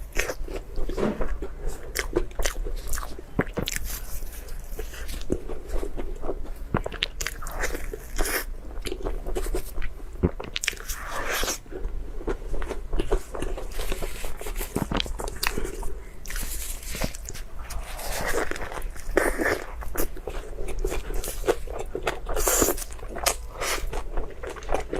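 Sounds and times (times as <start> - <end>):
person chewing with crunching: 0.0 - 24.9.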